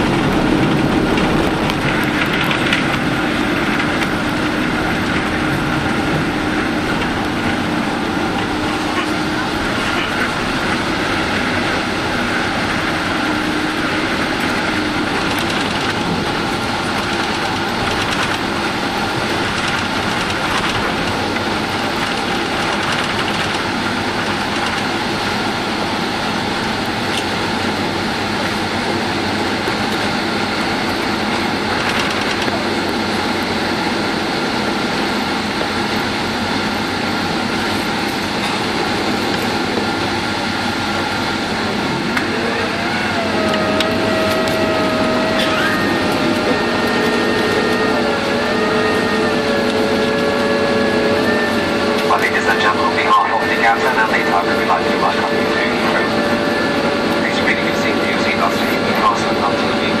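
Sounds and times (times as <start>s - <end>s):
rushing air: 0.0s - 54.4s
aircraft engine hum: 0.0s - 60.0s.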